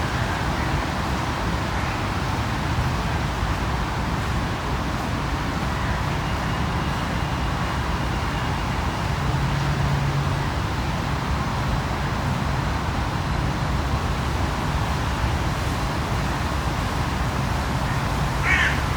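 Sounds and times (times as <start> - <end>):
distant road traffic rumble: 0.0 - 18.9.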